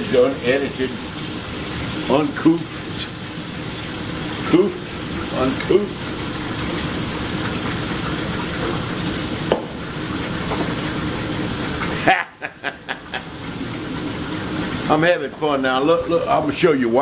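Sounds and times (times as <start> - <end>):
faucet running water into sink: 0.0 - 17.0.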